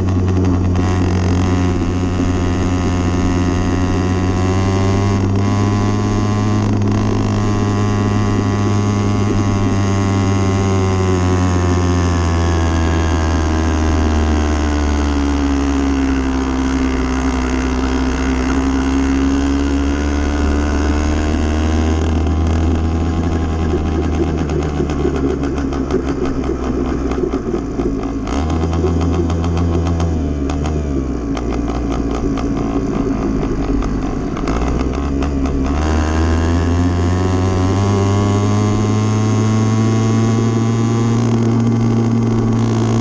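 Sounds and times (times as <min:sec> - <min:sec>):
motorbike engine running: 0:00.0 - 0:43.0.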